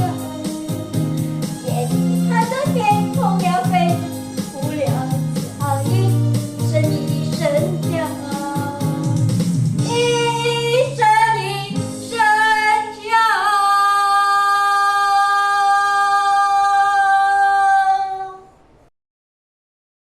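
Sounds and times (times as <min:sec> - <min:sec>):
woman singing pop song: 0:00.0 - 0:18.4.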